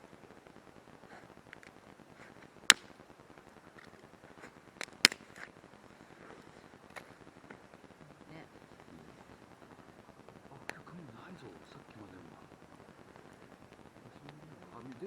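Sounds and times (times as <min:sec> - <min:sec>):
loud sharp pops from fire: 0:00.0 - 0:08.0, 0:08.6 - 0:15.0
campfire crackling: 0:00.0 - 0:15.0.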